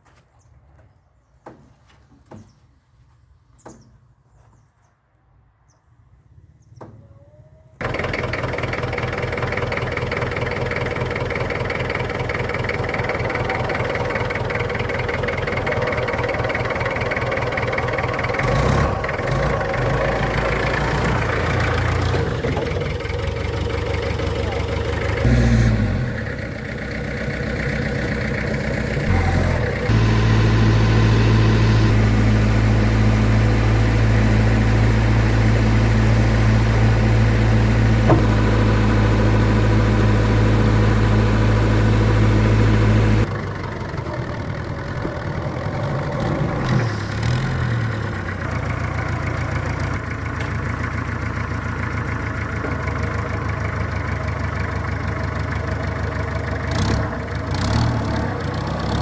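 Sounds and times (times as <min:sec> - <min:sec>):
truck engine running: 0:07.8 - 0:59.0.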